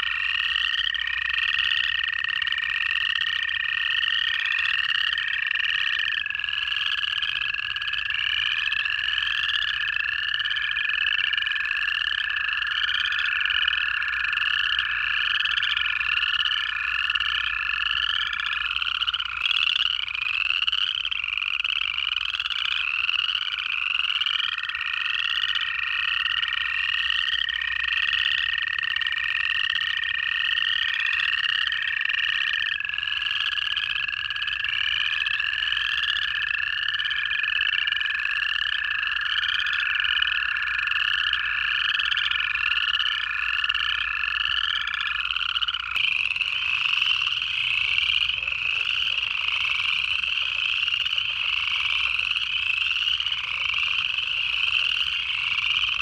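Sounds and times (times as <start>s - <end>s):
chorus frogs rising trills: 0.0s - 56.0s
toads long steady trills: 0.0s - 56.0s.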